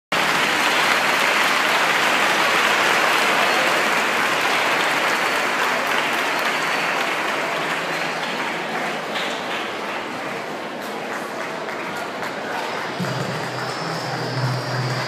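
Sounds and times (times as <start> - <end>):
audience applauding: 0.1 - 15.0.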